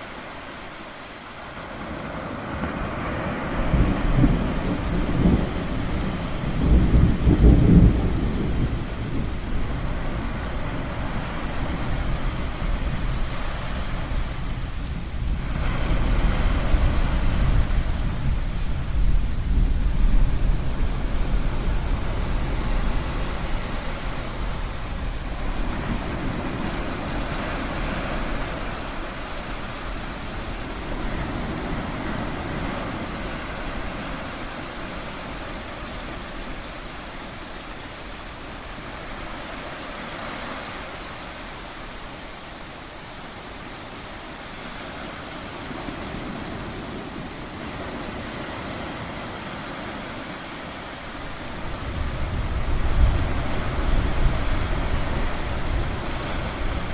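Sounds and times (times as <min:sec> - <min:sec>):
waves breaking: 0:00.0 - 0:56.9.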